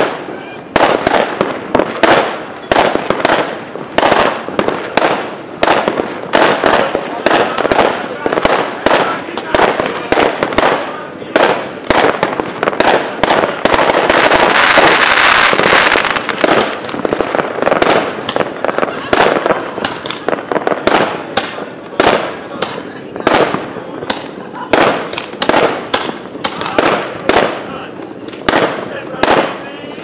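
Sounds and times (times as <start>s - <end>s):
fireworks bangs: 0.0s - 30.0s
fireworks crackle: 0.0s - 30.0s.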